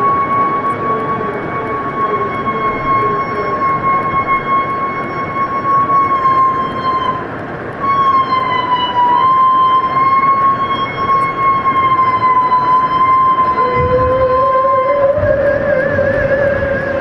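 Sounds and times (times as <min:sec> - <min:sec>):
steady hiss: 0:00.0 - 0:17.0
whale call high tone: 0:00.0 - 0:17.0.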